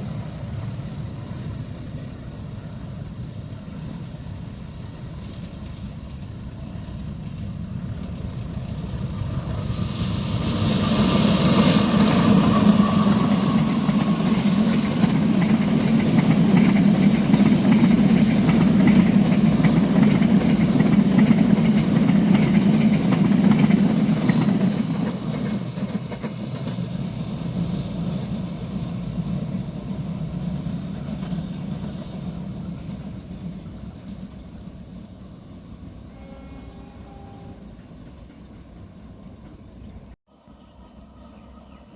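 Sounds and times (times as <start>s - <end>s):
train wheels on rails: 0.0s - 40.2s
diesel train engine: 0.0s - 41.9s.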